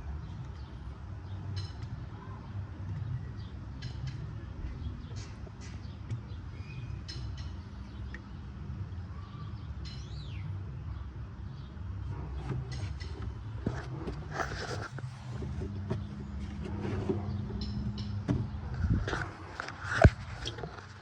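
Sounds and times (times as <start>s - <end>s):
birds chirping: 0.0s - 21.0s
low steady rumble: 0.0s - 21.0s.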